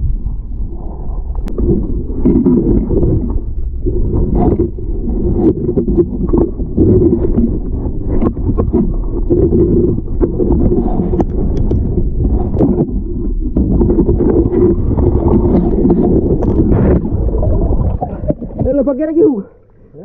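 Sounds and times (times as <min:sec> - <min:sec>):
small underwater clicks and knocks: 0:00.0 - 0:19.8
muffled underwater rumble: 0:00.0 - 0:20.0.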